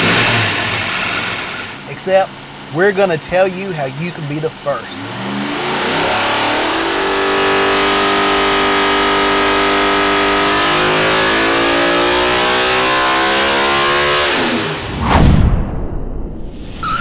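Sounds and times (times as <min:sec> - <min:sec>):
engine running at high rpm: 0:00.0 - 0:14.9.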